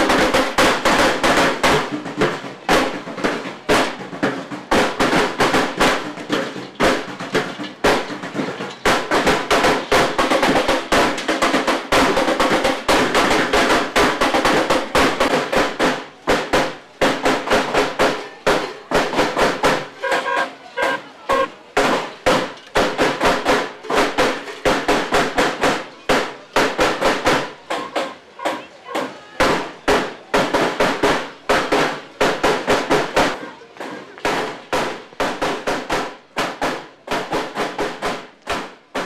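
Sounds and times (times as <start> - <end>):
sharp cracks and bangs: 0.0 - 39.0.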